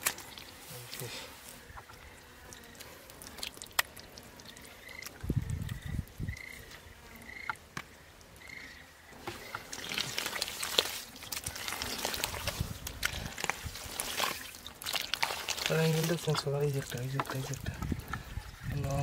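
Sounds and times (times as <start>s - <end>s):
hands squelching in wet mud: 0.0s - 5.8s, 9.2s - 19.0s.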